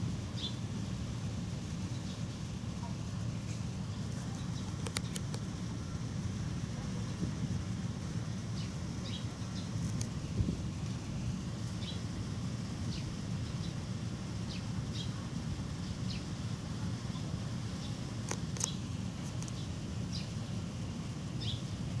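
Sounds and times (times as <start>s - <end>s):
low wind rumble on microphone: 0.0s - 22.0s.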